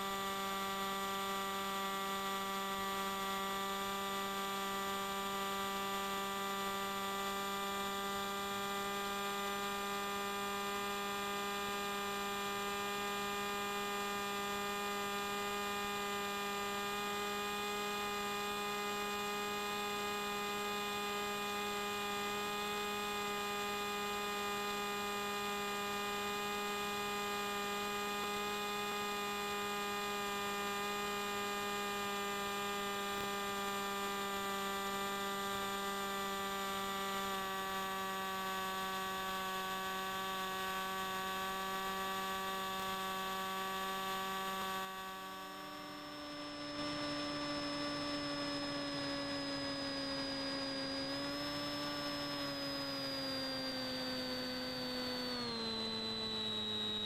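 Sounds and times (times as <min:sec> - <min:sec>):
steady hum with overtones: 0:00.0 - 0:57.0.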